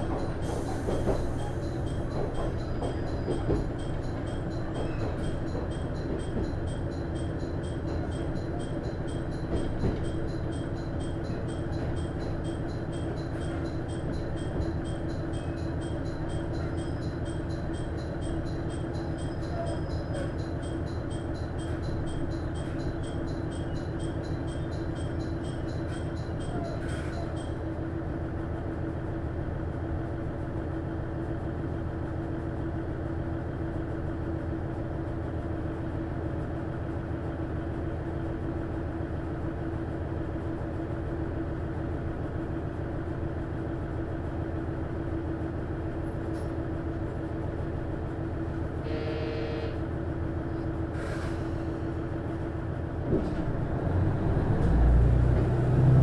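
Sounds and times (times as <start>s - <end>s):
diesel railcar engine: 0.0s - 56.0s.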